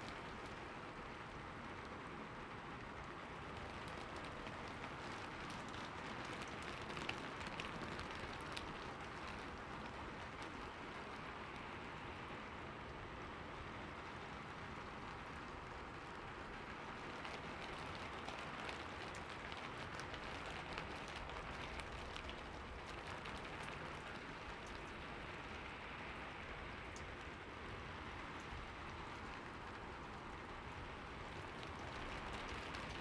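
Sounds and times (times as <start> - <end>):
steady rainfall: 0.0 - 33.0.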